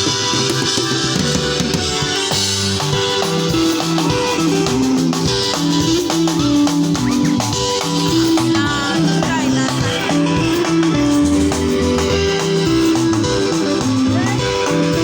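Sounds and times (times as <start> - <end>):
band music: 0.0 - 15.0
plucked guitar lines: 0.0 - 15.0.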